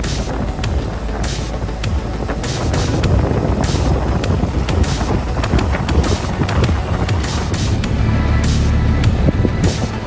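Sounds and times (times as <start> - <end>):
music with hissy beat: 0.0 - 10.0
vehicle engine: 0.0 - 10.0
wind noise: 0.0 - 10.0.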